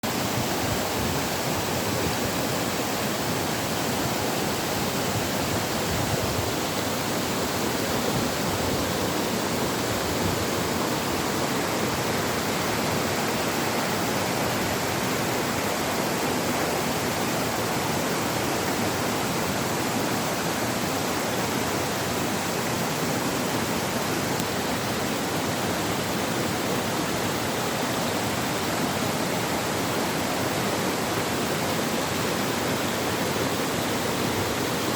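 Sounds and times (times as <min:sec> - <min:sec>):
flowing water rushing: 0:00.0 - 0:34.9.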